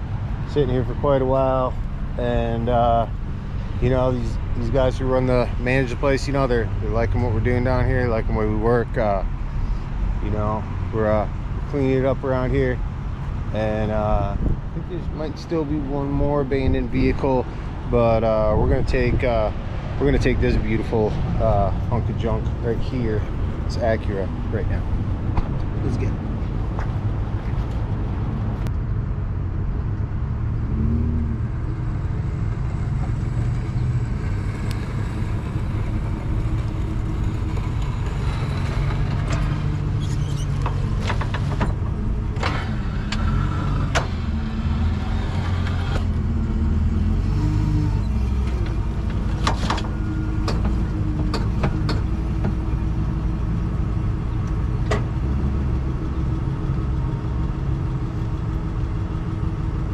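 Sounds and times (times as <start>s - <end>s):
truck engine rumbling: 0.0s - 59.9s.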